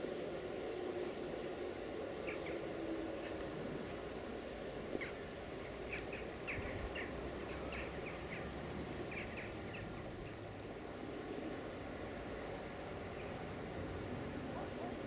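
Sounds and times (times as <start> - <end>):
low outdoor hum: 0.0 - 15.0
small birds chirping: 0.3 - 15.0.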